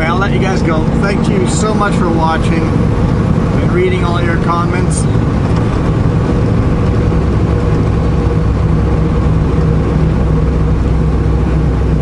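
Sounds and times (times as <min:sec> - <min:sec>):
diesel truck engine droning: 0:00.0 - 0:12.0
tyre and road noise: 0:00.0 - 0:12.0.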